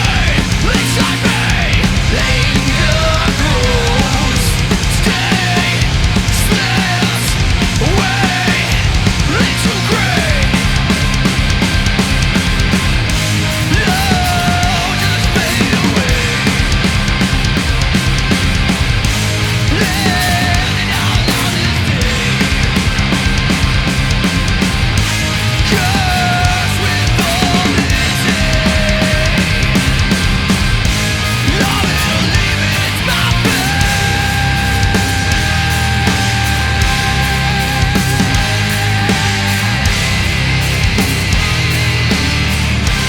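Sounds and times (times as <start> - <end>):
driving drum beat: 0.0 - 43.0
heavy rock music: 0.0 - 43.0.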